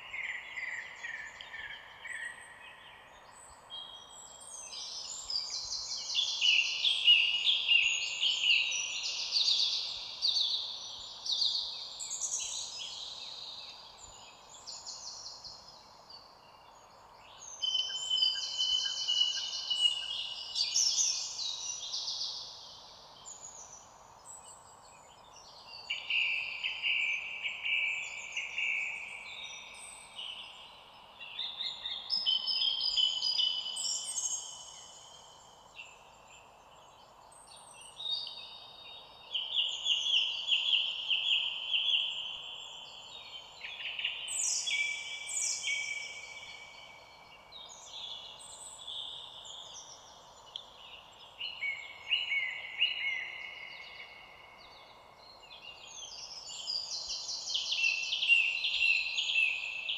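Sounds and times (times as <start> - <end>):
faint steady hiss: 0.0 - 59.9
songbirds singing: 0.0 - 59.9.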